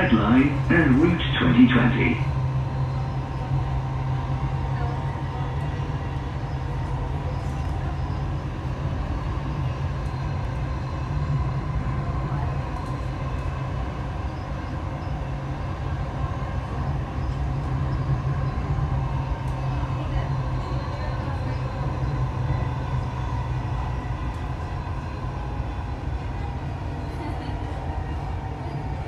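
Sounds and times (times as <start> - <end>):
faint hum: 0.0 - 29.0
train rumble inside carriage: 0.0 - 29.0.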